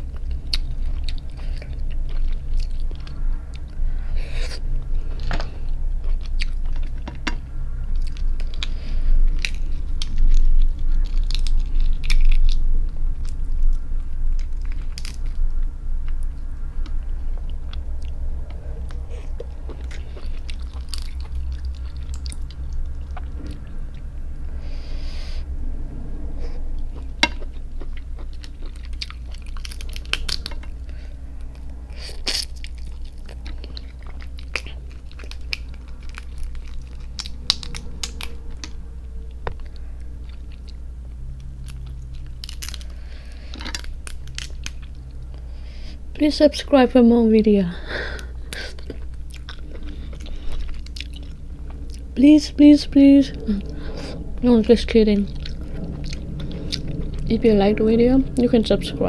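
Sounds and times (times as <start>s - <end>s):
chewing and crunching crab: 0.0s - 24.2s, 26.8s - 46.1s, 47.9s - 52.3s, 53.3s - 57.4s
low hum: 0.0s - 59.0s.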